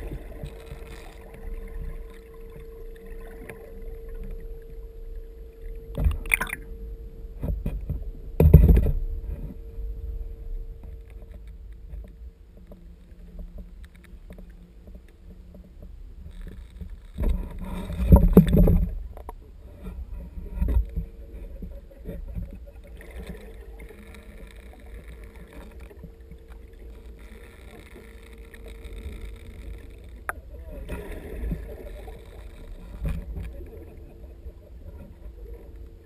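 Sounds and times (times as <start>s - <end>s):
muffled water sloshing and rushing: 0.0s - 36.0s
steady low hum: 0.0s - 36.0s.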